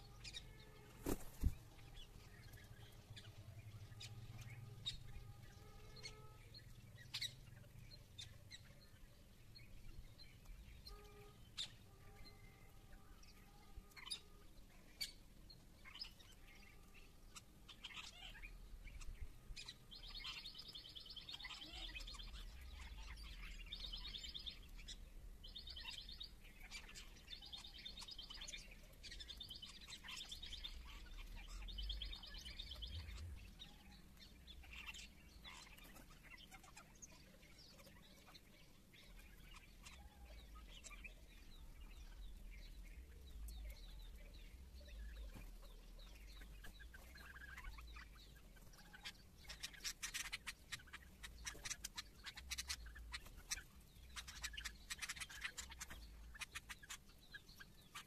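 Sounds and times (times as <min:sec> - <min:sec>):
bird chirps and trills: 0:00.0 - 0:58.0.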